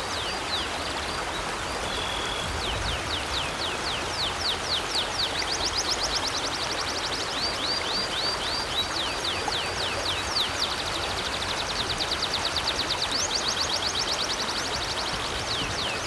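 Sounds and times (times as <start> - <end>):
river flowing: 0.0 - 16.0
songbird singing: 0.0 - 16.0.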